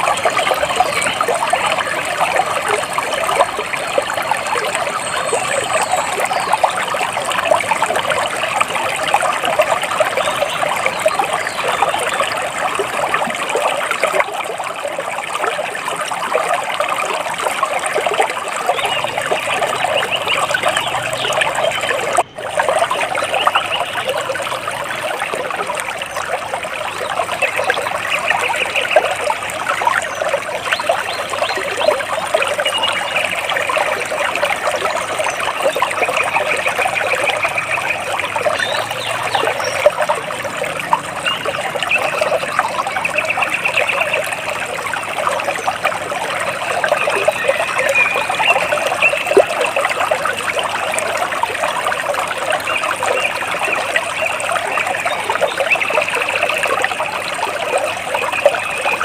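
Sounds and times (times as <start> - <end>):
water splashing and trickling: 0.0 - 59.0.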